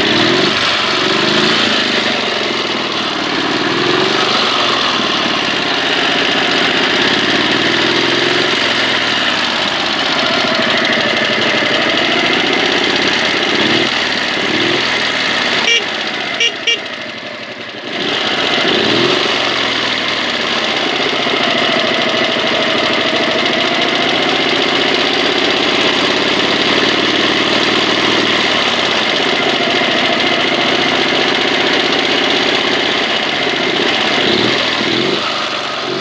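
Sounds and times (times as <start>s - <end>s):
small petrol engine running: 0.0s - 36.0s.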